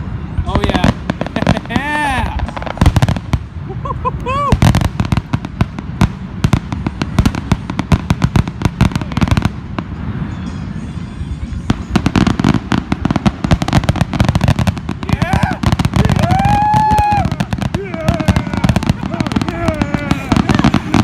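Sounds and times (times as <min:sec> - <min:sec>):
fireworks banging and cracking: 0:00.0 - 0:21.0.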